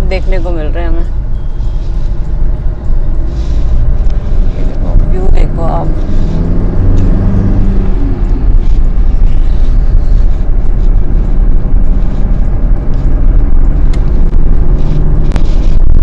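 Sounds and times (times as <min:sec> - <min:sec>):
car road and engine noise: 0:00.0 - 0:16.0
wind rumbling on microphone: 0:00.0 - 0:16.0.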